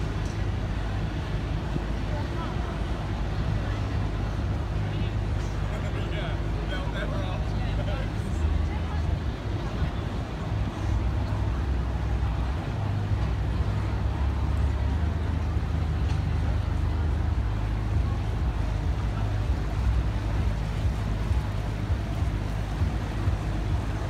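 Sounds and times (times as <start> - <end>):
motorboat engine rumbling: 0.0 - 24.0
wind: 0.0 - 24.0.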